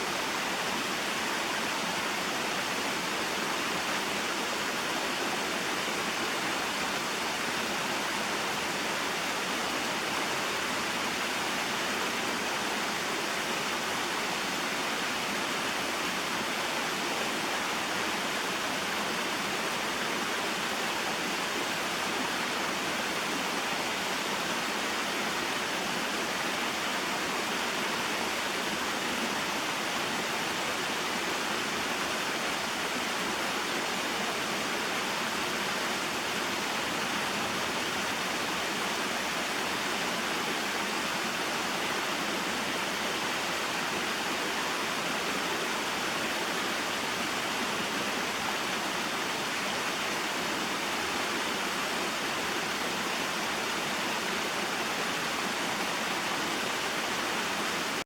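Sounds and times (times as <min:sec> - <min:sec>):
waterfall and stream rushing: 0:00.0 - 0:58.0.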